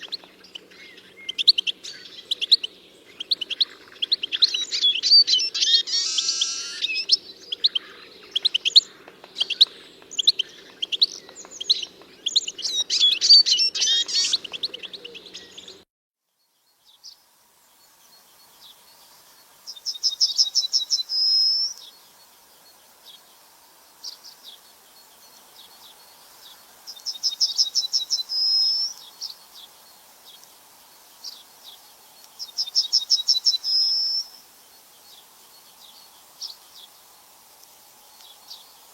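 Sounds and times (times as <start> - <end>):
birds singing and chattering: 0.0 - 15.8, 16.7 - 37.3, 37.9 - 38.9
single bird song with flourish: 0.0 - 15.8, 16.4 - 37.2.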